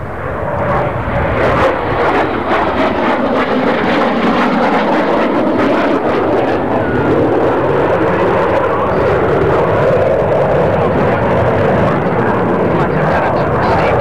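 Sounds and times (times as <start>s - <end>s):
jet engine crackle: 0.0s - 14.0s
jet engine rushing: 0.0s - 14.0s.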